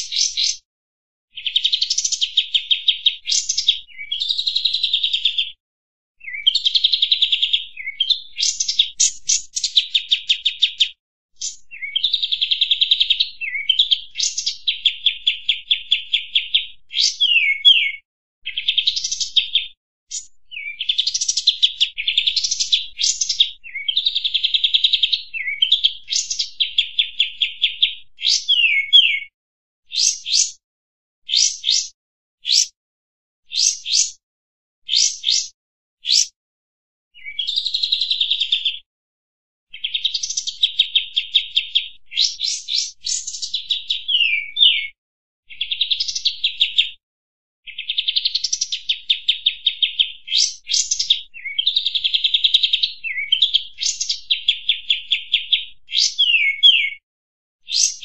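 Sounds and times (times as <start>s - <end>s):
bird trilling song: 0.0s - 0.6s, 1.3s - 5.6s, 6.2s - 29.3s, 29.9s - 30.6s, 31.3s - 32.8s, 33.5s - 34.2s, 34.9s - 36.4s, 37.2s - 38.8s, 39.7s - 47.0s, 47.7s - 57.0s, 57.6s - 58.0s.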